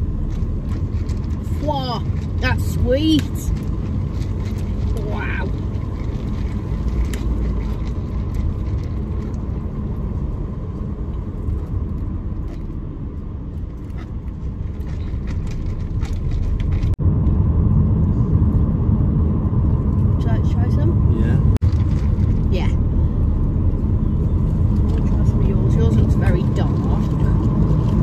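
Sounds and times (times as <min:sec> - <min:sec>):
road and engine noise in car: 0:00.0 - 0:28.0.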